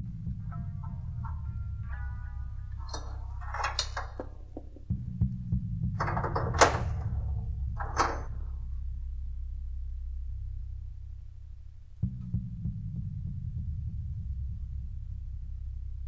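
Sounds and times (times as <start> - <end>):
low steady drone: 0.0 - 16.0.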